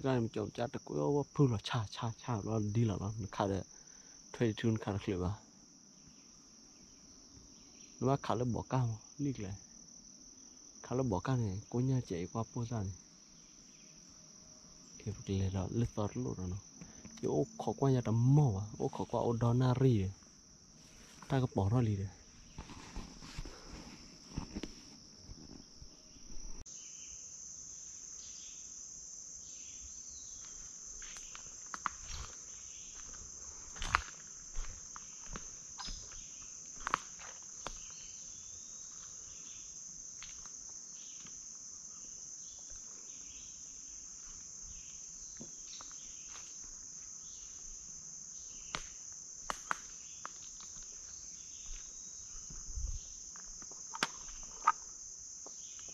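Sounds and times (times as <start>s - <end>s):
high-pitched insect drone: 0.0s - 22.7s, 23.4s - 55.9s.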